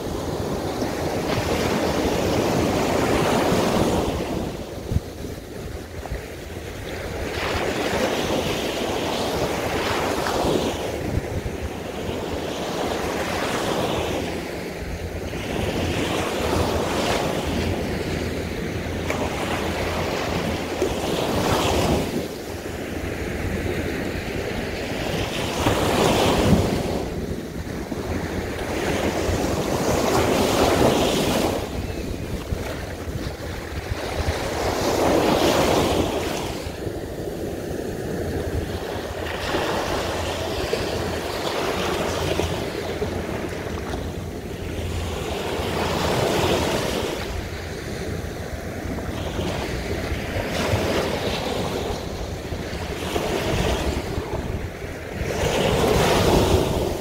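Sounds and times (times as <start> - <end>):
waves breaking on sand: 0.0 - 57.0
wind rumble on microphone: 0.0 - 57.0.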